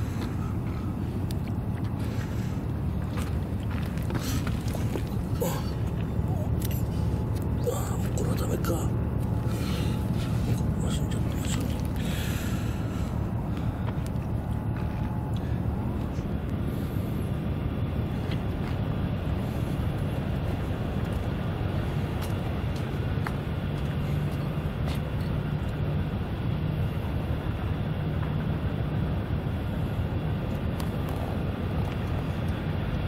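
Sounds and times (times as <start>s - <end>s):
faint hum: 0.0s - 33.0s
low outdoor rumble: 0.0s - 33.0s.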